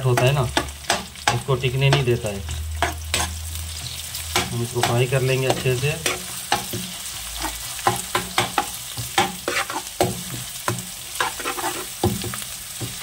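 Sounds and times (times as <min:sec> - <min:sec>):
onions sizzling in hot oil: 0:00.0 - 0:13.0
spatula scraping metal pan: 0:00.1 - 0:10.4, 0:11.0 - 0:12.4.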